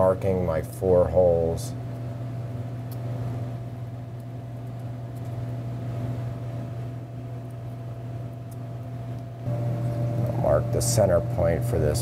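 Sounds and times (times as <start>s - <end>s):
machine hum with droning pitch: 0.0s - 12.0s.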